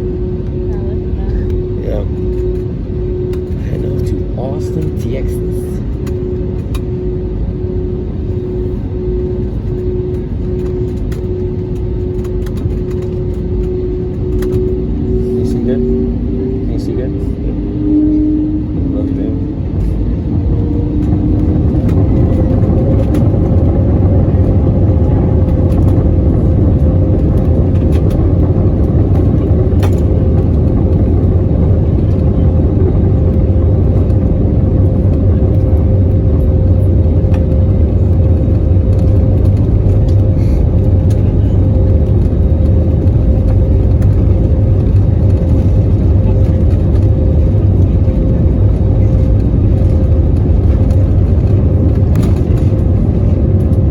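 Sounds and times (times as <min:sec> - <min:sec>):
heavy noisy rumble: 0:00.0 - 0:53.9
jet engines high whine: 0:00.0 - 0:53.9.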